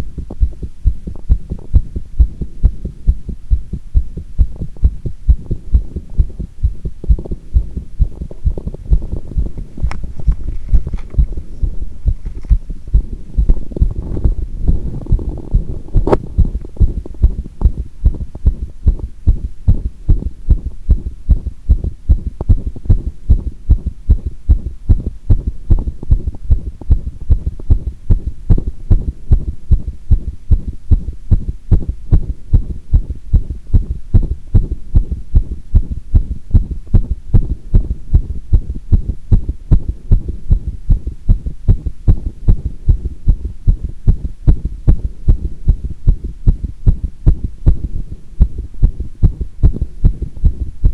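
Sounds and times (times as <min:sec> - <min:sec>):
heartbeat: 0:00.0 - 0:50.9.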